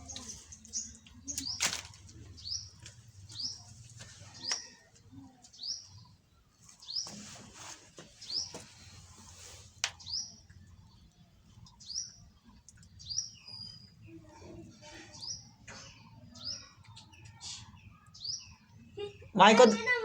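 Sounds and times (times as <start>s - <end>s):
bird chirping: 0.0s - 7.4s, 8.0s - 20.0s.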